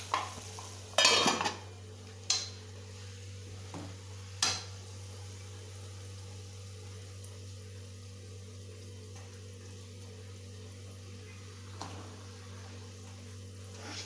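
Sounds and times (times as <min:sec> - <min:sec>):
food sizzling in oil: 0:00.0 - 0:14.0
steady low hum: 0:00.0 - 0:14.0.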